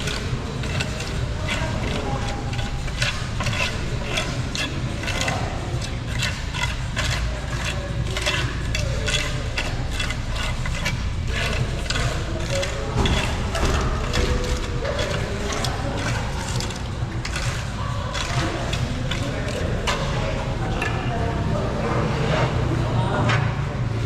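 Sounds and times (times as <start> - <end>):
tool scraping wet cement: 0.0 - 22.8.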